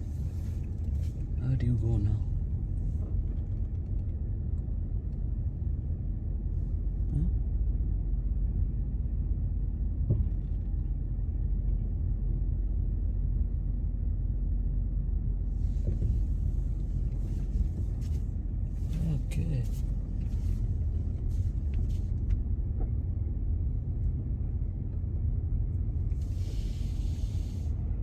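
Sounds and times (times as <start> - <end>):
car engine rumble: 0.0 - 28.0.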